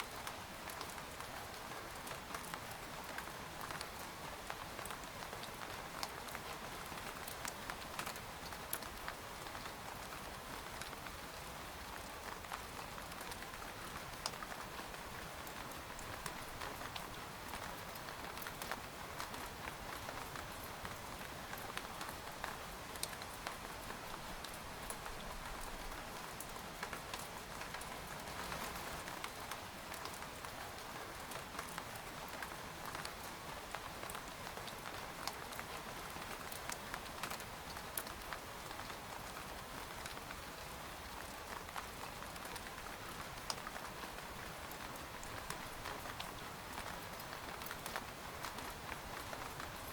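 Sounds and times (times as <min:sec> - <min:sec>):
rain on tent fabric: 0:00.0 - 0:49.9.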